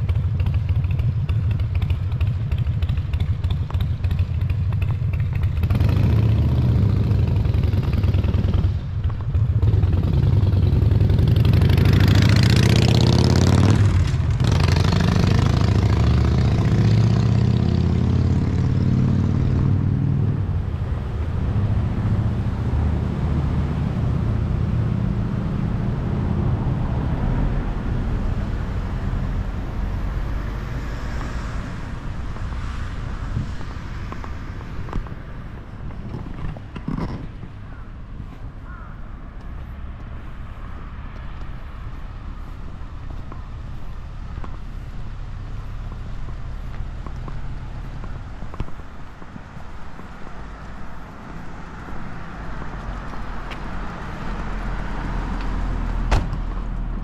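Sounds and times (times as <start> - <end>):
low traffic rumble: 0.0 - 57.0
vehicle driving past: 5.3 - 57.0.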